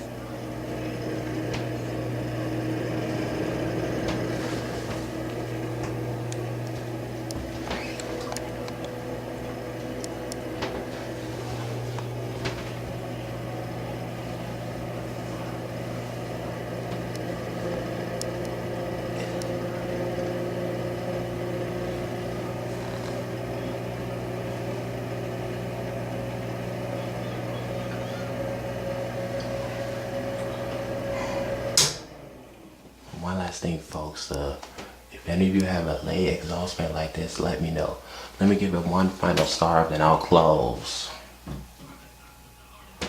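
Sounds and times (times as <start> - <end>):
exhaust fan motor humming: 0.0 - 43.0.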